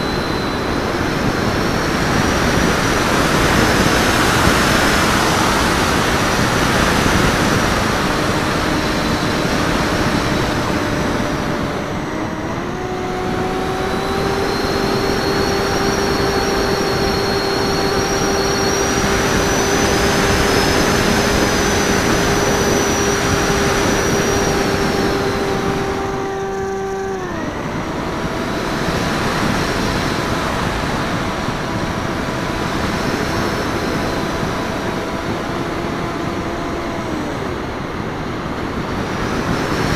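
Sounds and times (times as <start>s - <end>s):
electric motor and propeller whine: 0.0s - 39.9s
wind rushing over microphone: 0.0s - 39.9s.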